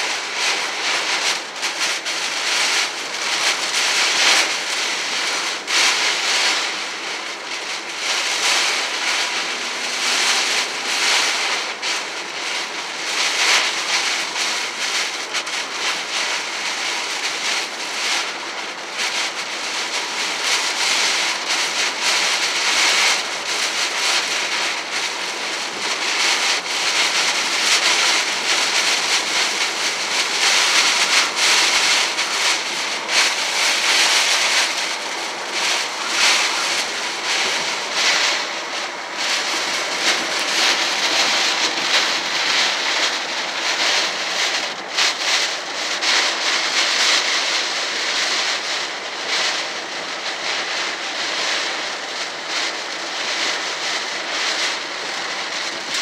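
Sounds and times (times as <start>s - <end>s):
heavy rain on car windshield: 0.0s - 56.0s
tyre noise on wet road: 0.0s - 56.0s.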